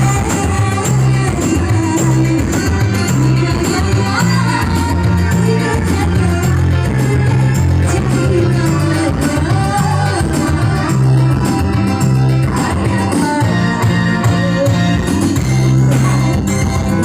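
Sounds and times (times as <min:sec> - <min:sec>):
keyboard band music: 0:00.0 - 0:17.0.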